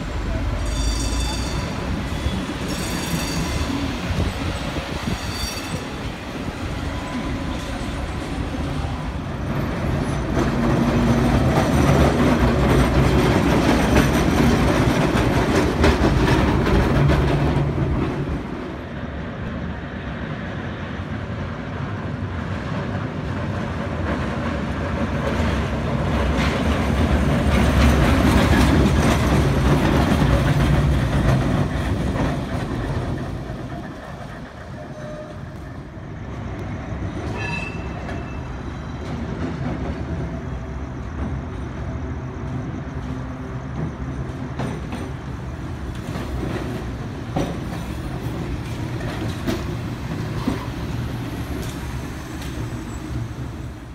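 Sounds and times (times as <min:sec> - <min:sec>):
streetcars rumbling past on rails: 0:00.0 - 0:53.9.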